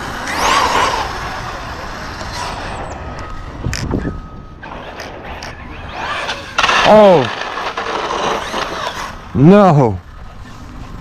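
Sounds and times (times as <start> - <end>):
electric motor whining: 0.0 - 9.3
tyre and wind noise: 0.0 - 11.0.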